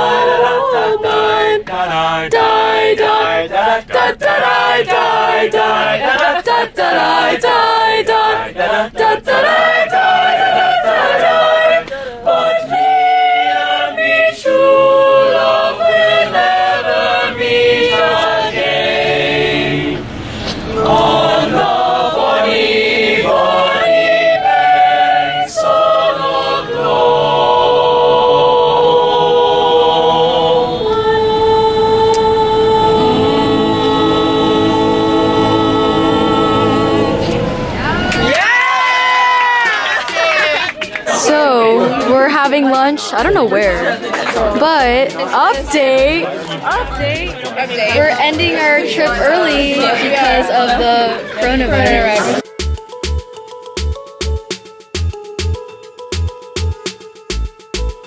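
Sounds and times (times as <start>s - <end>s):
choir singing a cappella: 0.0s - 38.4s, 41.0s - 52.5s.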